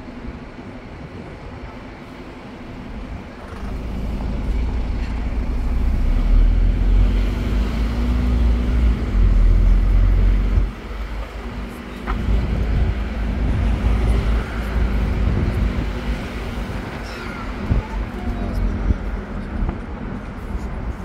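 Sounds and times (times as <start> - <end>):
bus engine hum: 0.0 - 21.0
road noise: 0.0 - 21.0
deep rumble: 3.0 - 21.0.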